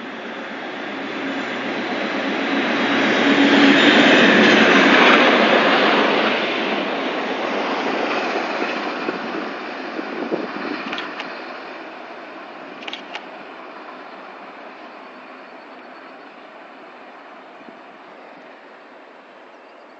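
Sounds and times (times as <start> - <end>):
train passing close by: 0.0 - 19.9.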